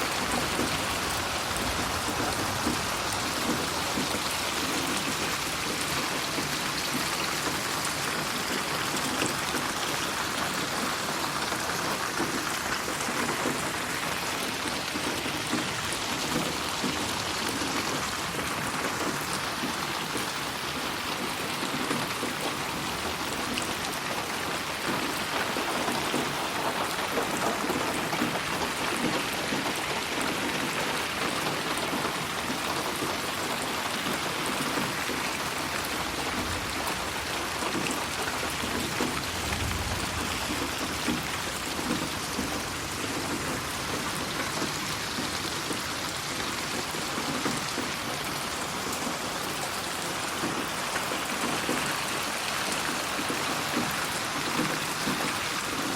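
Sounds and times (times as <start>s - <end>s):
rain pattering on surfaces: 0.0s - 55.9s.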